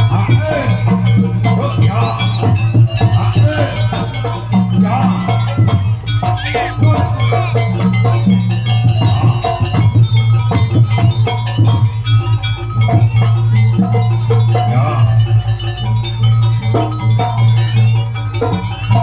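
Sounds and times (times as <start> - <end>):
drum strokes: 0.0 - 19.0
pitched metallic tones: 0.0 - 19.0.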